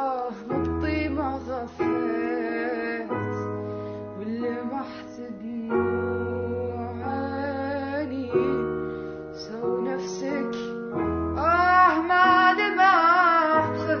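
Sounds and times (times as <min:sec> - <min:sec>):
woman singing: 0:00.0 - 0:08.8, 0:09.4 - 0:14.0
keyboard chords: 0:00.0 - 0:14.0.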